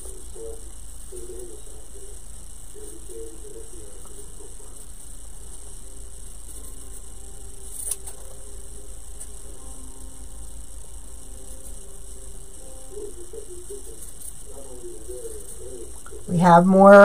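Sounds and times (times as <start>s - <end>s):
electrical mains hum: 0.0s - 17.0s
faint high-pitched whine: 0.0s - 17.0s.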